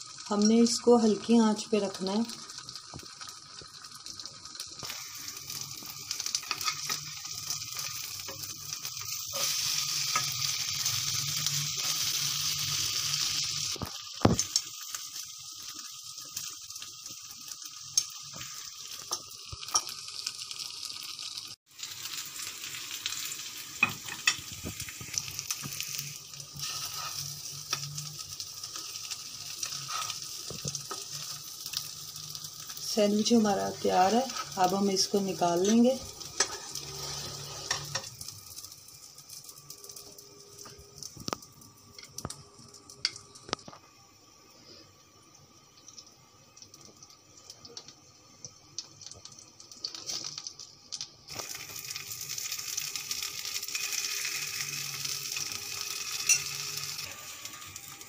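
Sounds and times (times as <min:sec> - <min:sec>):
sandwich frying hiss: 0:00.0 - 0:58.0.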